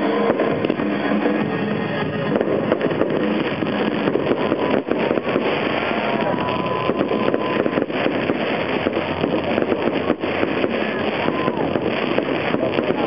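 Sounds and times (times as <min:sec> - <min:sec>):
fireworks crackling: 0:00.0 - 0:13.0
fireworks pops and bangs: 0:00.0 - 0:13.0.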